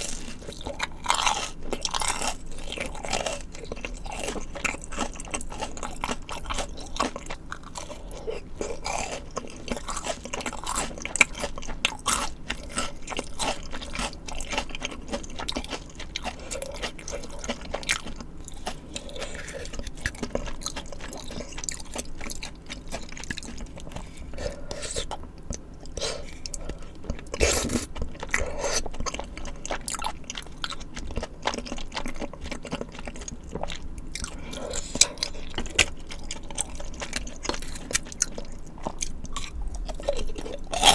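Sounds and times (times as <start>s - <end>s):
crunching bites and chewing: 0.0s - 40.9s.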